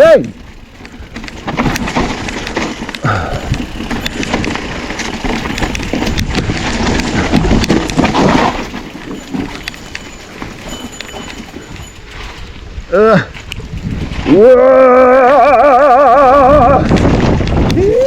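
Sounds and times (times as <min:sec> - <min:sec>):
bike rattling over rough ground: 0:00.0 - 0:18.0
bike tyres on muddy trail: 0:00.0 - 0:18.0.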